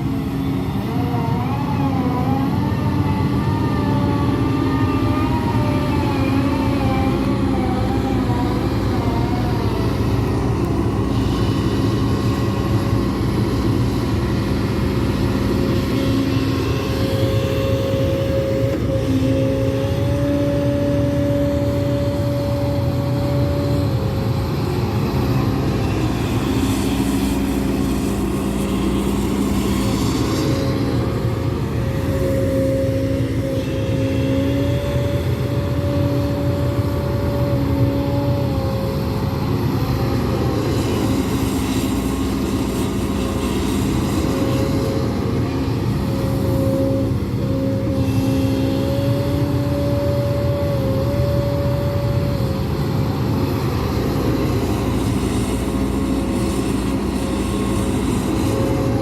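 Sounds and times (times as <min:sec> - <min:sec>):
excavator diesel engine drone: 0:00.0 - 0:59.0
hydraulic whining tones: 0:00.0 - 0:59.0.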